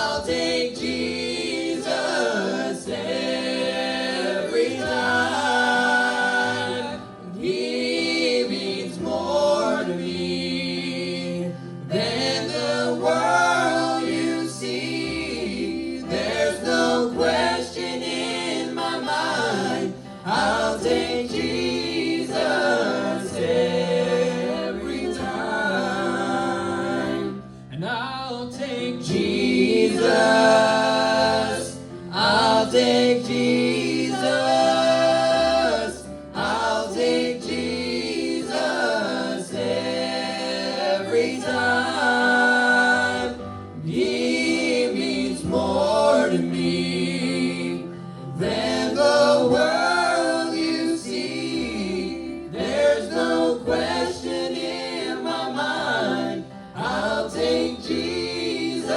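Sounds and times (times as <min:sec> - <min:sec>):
gospel choir singing: 0:00.0 - 0:58.9.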